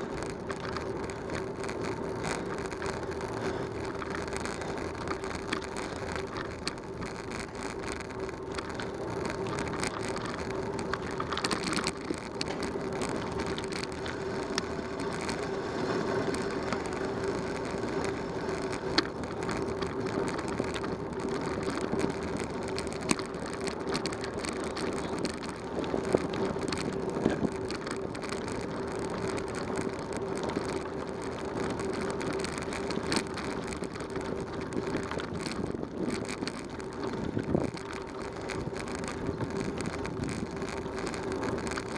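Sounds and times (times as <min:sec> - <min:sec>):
bicycle tyres crunching on gravel: 0:00.0 - 0:41.9
clicks and rattles: 0:00.0 - 0:41.9
steady hum: 0:00.0 - 0:41.9.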